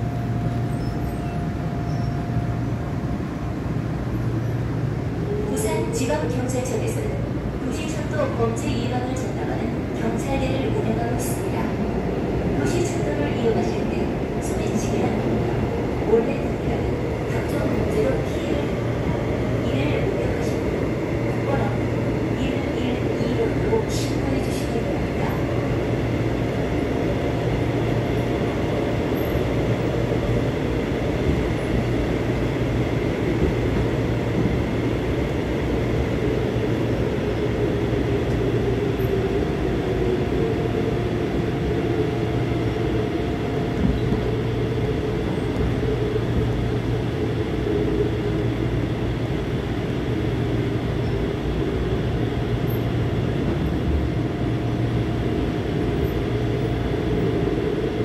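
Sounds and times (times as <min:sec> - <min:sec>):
subway wheels rumbling: 0:00.0 - 0:58.0.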